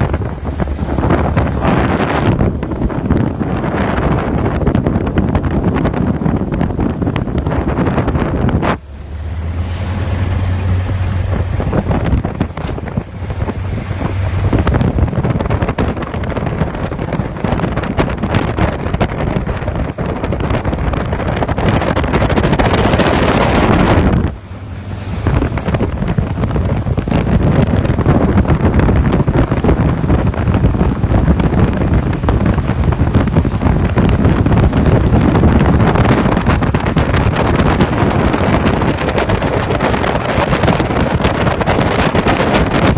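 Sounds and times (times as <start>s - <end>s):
propeller aircraft engine: 0.0s - 42.9s
wind rush on microphone: 0.0s - 42.9s.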